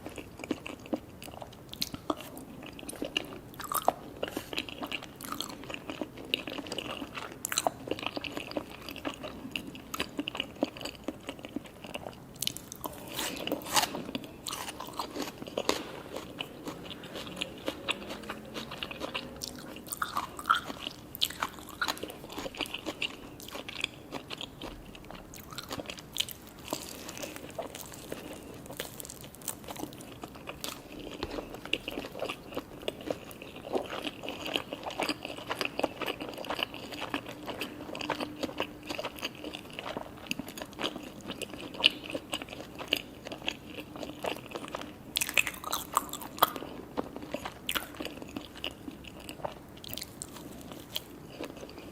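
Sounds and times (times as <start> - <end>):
wet chewing: 0.0 - 51.9.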